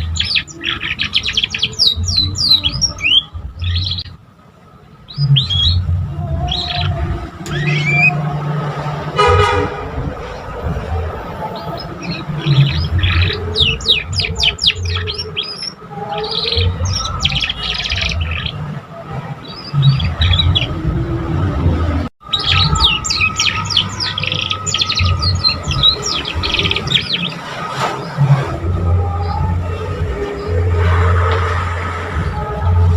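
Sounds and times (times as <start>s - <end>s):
canary singing: 0.0s - 4.2s, 5.0s - 21.3s, 22.2s - 31.4s.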